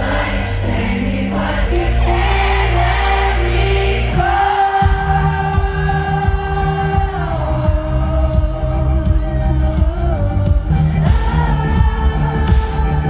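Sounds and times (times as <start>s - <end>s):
live pop concert music: 0.0s - 13.0s
pulsing bass beat: 1.0s - 13.0s.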